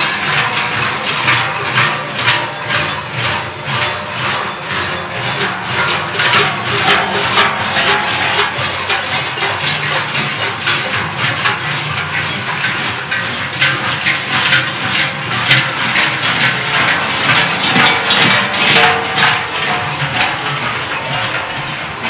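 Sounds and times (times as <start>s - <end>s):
cowbells clanging: 0.0s - 22.0s.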